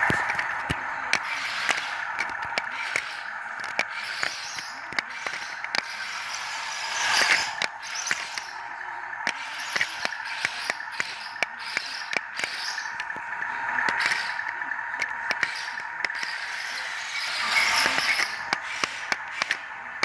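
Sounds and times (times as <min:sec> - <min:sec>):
rapid clicking of gears and tracks: 0:00.0 - 0:20.0
toy tank motor whining: 0:00.0 - 0:20.0.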